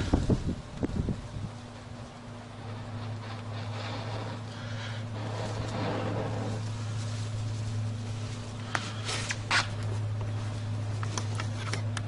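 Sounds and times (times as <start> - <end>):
burning grass crackling: 0.0 - 12.0
low hum: 0.0 - 12.0.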